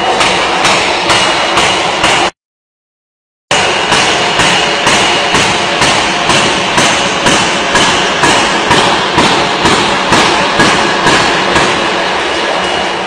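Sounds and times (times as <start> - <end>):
hammer striking metal: 0.0 - 2.4, 3.5 - 13.0
workshop noise: 0.0 - 2.4, 3.5 - 13.0.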